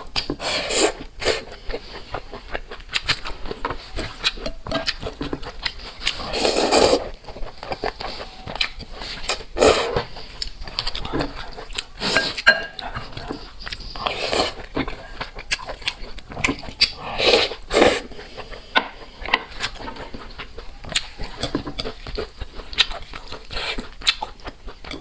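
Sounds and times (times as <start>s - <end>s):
wet chewing of noodles: 0.0s - 25.0s.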